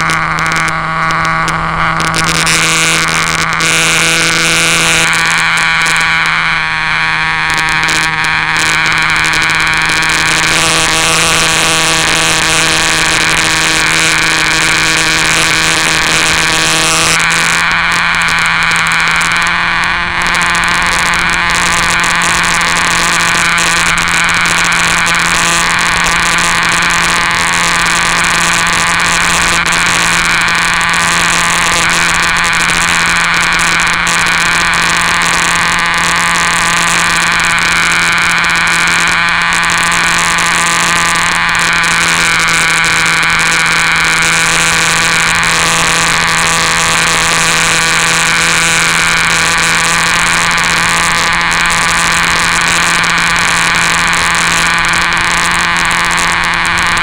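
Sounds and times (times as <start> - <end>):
model plane motor and propeller: 0.0 - 57.0.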